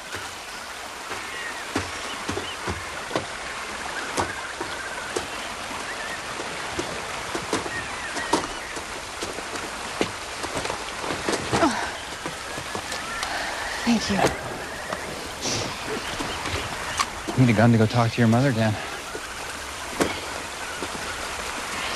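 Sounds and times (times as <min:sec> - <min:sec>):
footsteps and splashes in water: 0:00.0 - 0:21.9
shallow stream running: 0:00.0 - 0:21.9.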